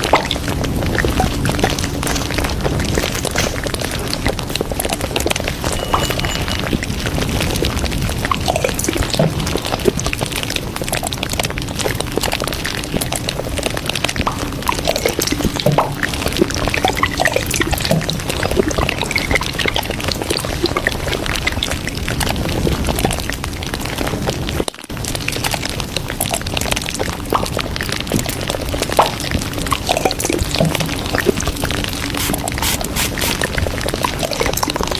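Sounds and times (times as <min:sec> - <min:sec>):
rushing noise with crackles: 0:00.0 - 0:34.9.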